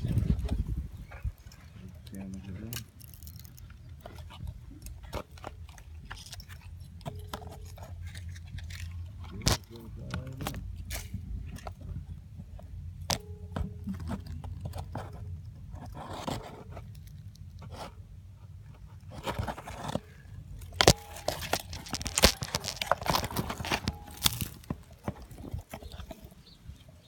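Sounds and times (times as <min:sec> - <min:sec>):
camera scraping against dirt: 0:00.0 - 0:12.0, 0:13.9 - 0:27.0
sharp knocks and crunches: 0:00.0 - 0:26.9.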